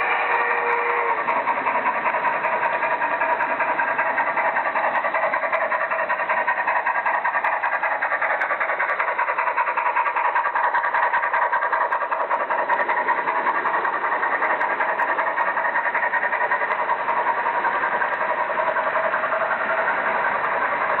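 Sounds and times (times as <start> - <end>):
model train motor whirring: 0.0 - 21.0
wheels clicking on track: 0.0 - 21.0.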